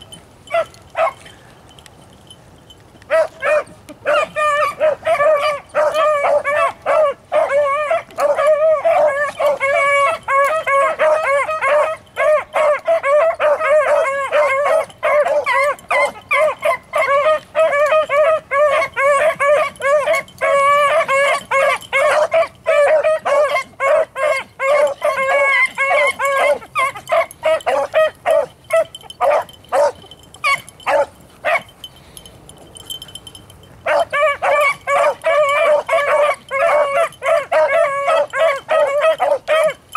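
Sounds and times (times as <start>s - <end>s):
hounds baying: 0.0s - 1.4s, 3.1s - 39.9s.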